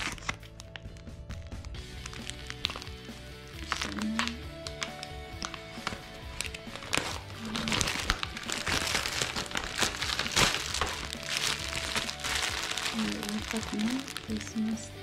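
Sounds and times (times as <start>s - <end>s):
plastic packaging crinkling: 0.0s - 14.9s
background music: 0.0s - 15.0s.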